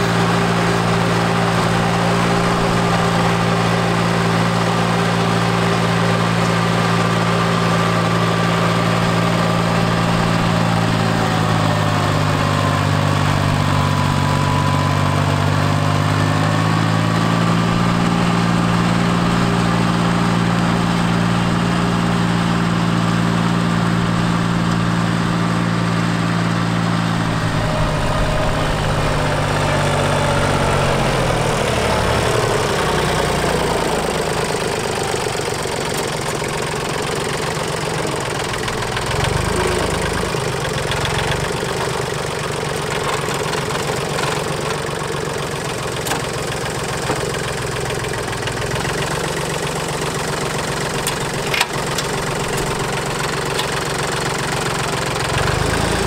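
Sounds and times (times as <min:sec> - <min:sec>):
rotary tiller through soil: 0:00.0 - 0:56.0
tractor diesel engine under load: 0:00.0 - 0:56.0.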